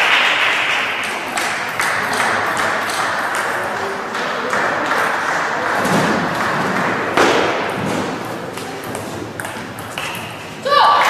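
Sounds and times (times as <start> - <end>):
sports hall noise: 0.0 - 11.0.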